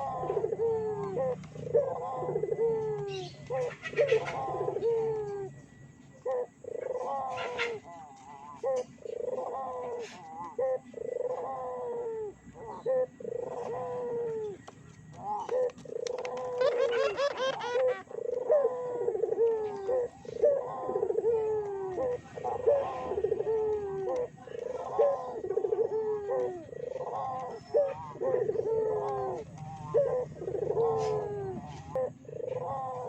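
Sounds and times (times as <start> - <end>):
dove high trill: 0.0 - 33.0
doves cooing: 0.0 - 33.0.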